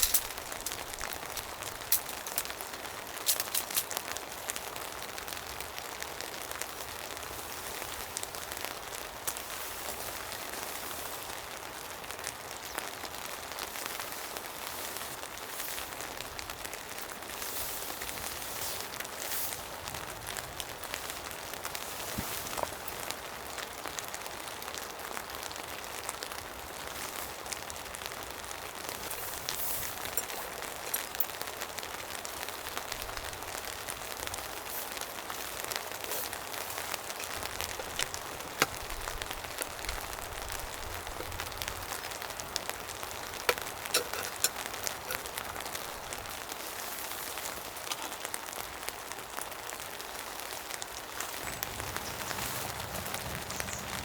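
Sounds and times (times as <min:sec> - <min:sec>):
raindrops ticking on a surface: 0:00.0 - 0:54.0
steady rain falling: 0:00.0 - 0:54.0.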